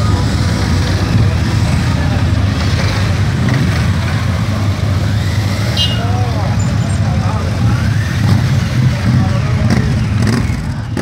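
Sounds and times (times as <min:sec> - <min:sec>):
motorcycles riding slowly past: 0:00.0 - 0:11.0.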